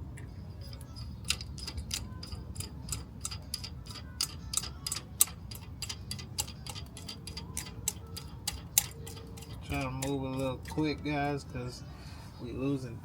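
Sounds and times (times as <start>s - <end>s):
ratchet wrench clicking: 0.6s - 11.0s.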